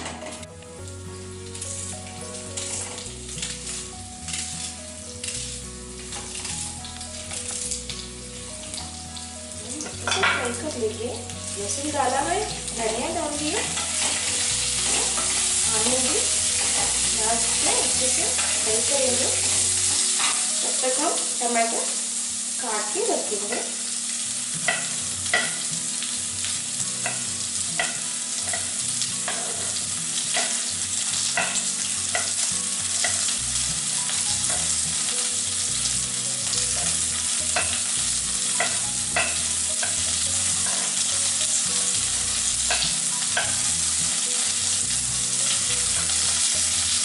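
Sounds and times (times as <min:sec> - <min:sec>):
food sizzling in oil: 0:00.0 - 0:47.0.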